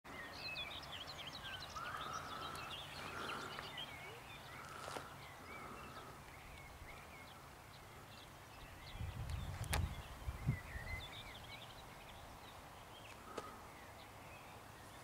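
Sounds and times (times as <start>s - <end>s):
songbirds chirping and warbling: 0.1s - 15.0s.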